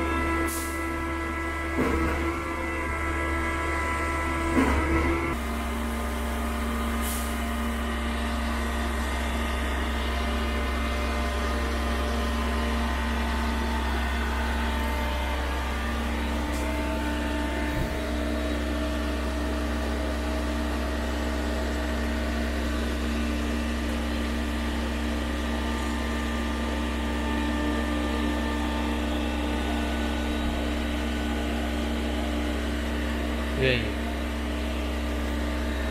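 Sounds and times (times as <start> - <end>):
truck engine running under load: 0.0 - 35.9.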